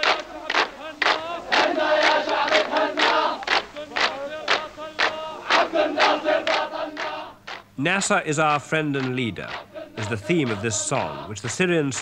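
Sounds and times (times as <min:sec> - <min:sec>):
group singing in chorus: 0:00.0 - 0:07.7, 0:08.8 - 0:12.0
hand-claps: 0:00.0 - 0:07.7, 0:08.4 - 0:12.0.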